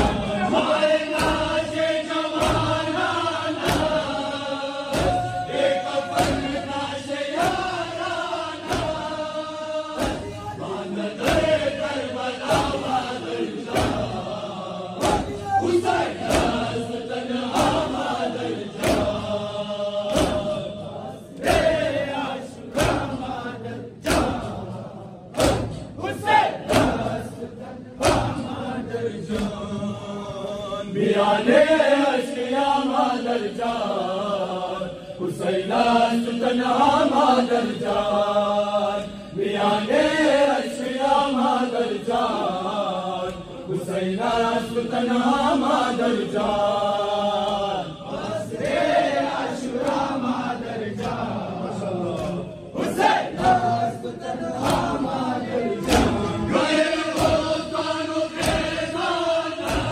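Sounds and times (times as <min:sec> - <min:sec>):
crowd of men chanting in unison: 0:00.0 - 0:59.9
rhythmic chest-beating hand slaps: 0:00.0 - 0:59.9.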